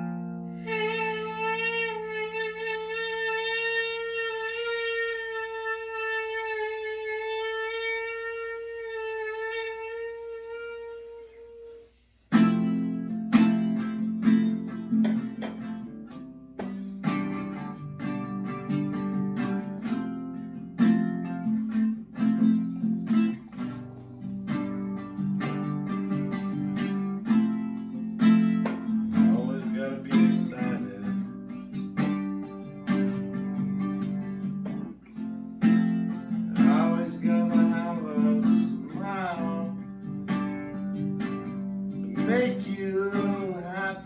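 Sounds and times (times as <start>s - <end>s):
acoustic guitar strumming chords: 0.0s - 11.7s, 12.3s - 44.0s.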